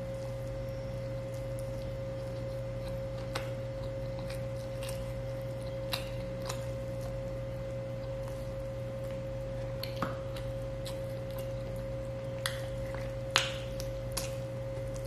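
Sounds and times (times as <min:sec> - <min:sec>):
electrical hum: 0:00.0 - 0:15.0
man chewing with wet smacks: 0:00.0 - 0:15.0.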